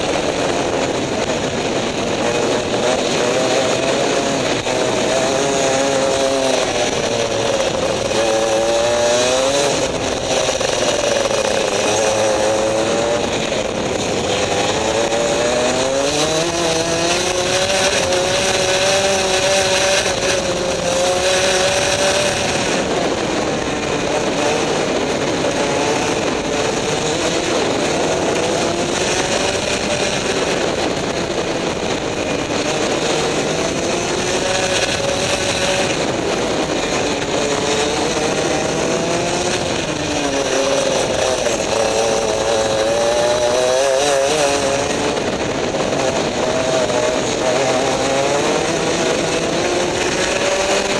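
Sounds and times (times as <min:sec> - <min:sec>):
kart engine revving: 0:00.0 - 0:50.9.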